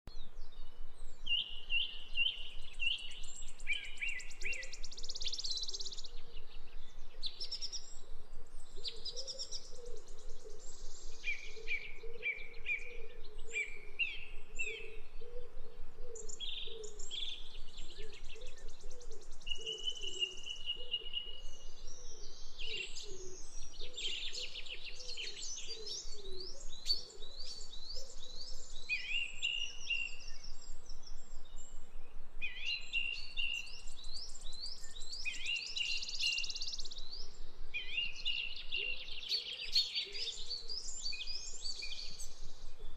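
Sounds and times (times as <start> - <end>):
sparrows and blackbirds chirping: 0.1 - 42.9.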